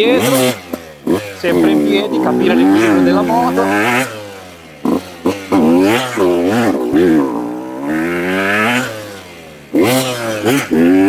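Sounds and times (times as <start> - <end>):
motocross engine revving: 0.0 - 11.0.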